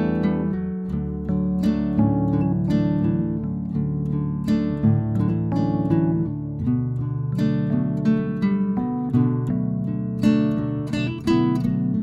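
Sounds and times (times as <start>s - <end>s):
acoustic guitar picking melody: 0.0s - 12.0s.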